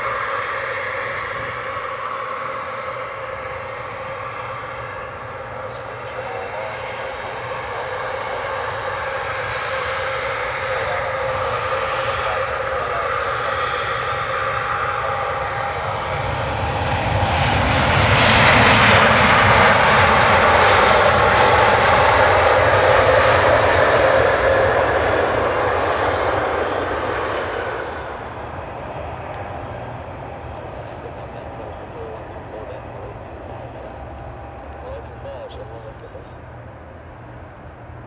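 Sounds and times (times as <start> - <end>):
jet engines passing: 0.0 - 38.0.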